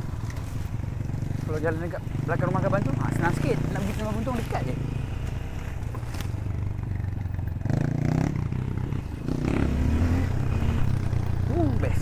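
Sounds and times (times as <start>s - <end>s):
clatter and scraping from trail: 0.0s - 12.0s
motorcycle engine revving: 0.0s - 12.0s.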